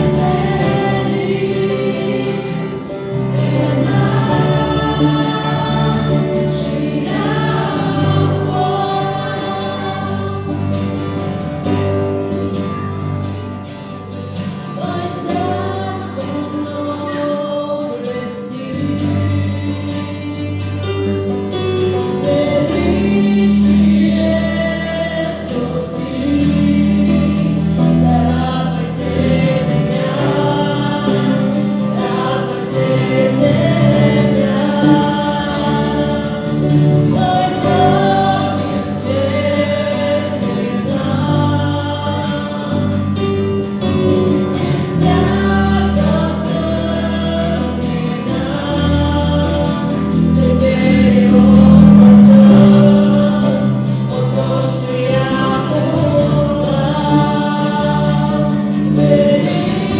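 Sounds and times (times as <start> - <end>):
acoustic guitar: 0.0 - 59.9
bass guitar: 0.0 - 59.9
group singing worship song: 0.0 - 59.9
keyboard: 0.0 - 59.9.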